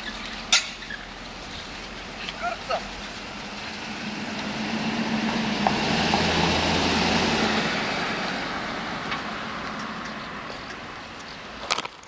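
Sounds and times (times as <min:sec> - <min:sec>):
car engine hum: 0:00.0 - 0:11.8.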